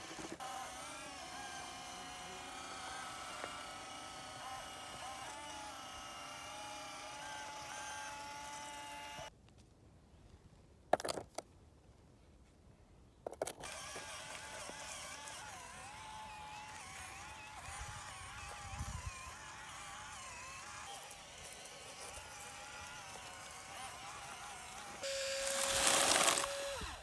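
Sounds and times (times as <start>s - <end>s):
faint motor whine: 0.0s - 9.3s, 13.6s - 27.0s.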